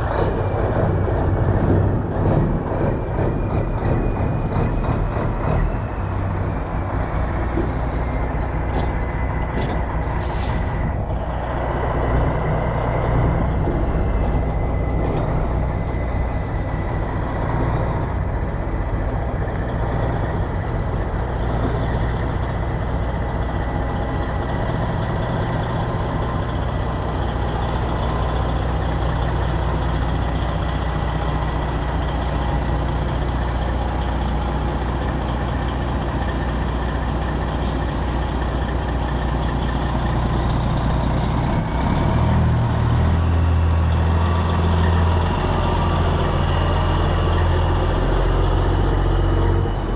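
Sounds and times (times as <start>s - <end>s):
diesel truck engine drone: 0.0s - 49.9s.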